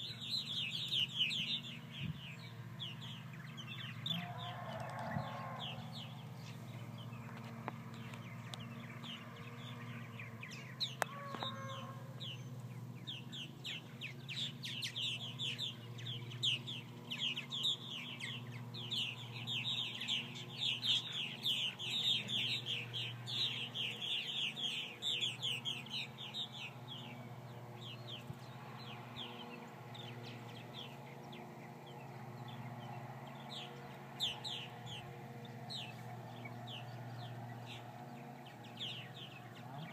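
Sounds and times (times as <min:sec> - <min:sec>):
birds chirping in flight: 0:00.0 - 0:39.9.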